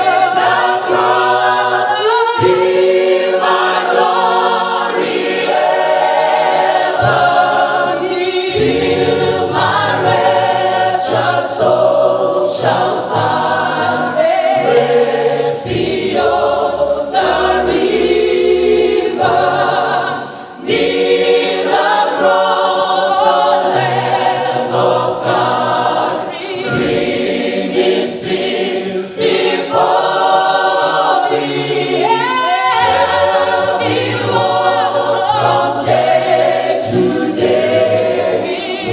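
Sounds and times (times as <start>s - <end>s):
church choir singing gospel: 0.0s - 38.9s.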